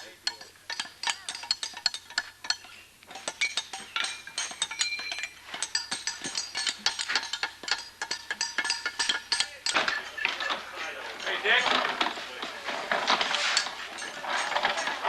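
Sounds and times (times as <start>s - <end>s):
bricks clinking and knocking: 0.0s - 15.0s.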